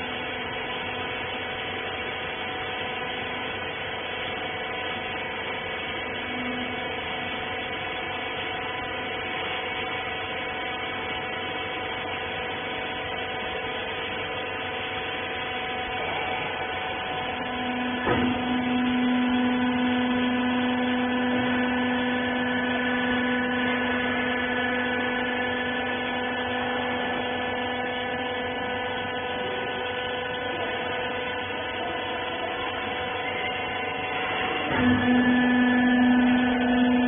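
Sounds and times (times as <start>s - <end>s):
machine humming: 0.0s - 37.0s.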